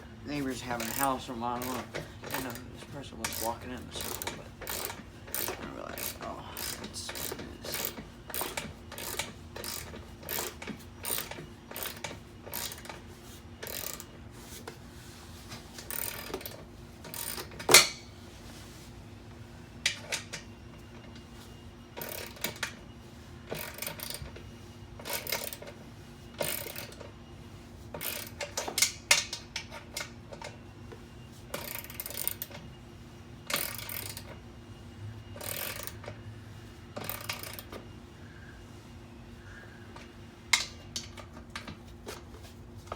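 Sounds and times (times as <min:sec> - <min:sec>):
tools and metal parts clattering: 0:00.3 - 0:14.8, 0:15.4 - 0:18.2, 0:19.8 - 0:27.2, 0:27.9 - 0:30.7, 0:31.5 - 0:32.7, 0:33.4 - 0:34.4, 0:35.3 - 0:36.2, 0:36.9 - 0:37.9, 0:39.9 - 0:42.9.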